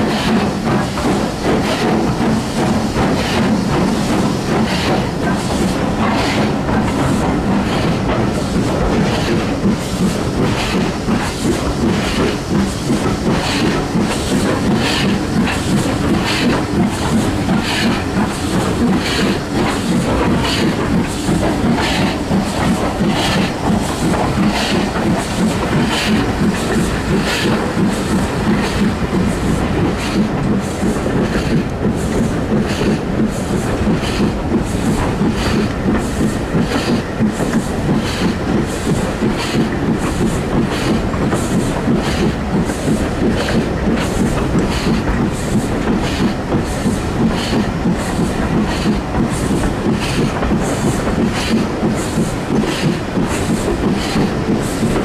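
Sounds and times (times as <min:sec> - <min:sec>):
steam engine exhaust beat: 0:00.0 - 0:55.0
train rumbling: 0:00.0 - 0:55.0.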